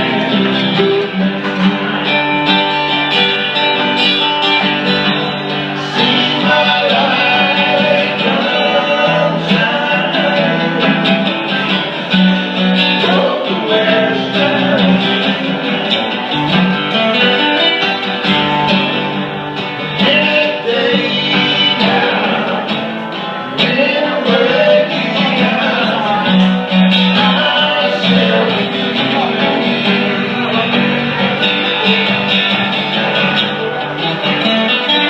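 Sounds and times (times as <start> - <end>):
guitar-led music: 0.0 - 35.0.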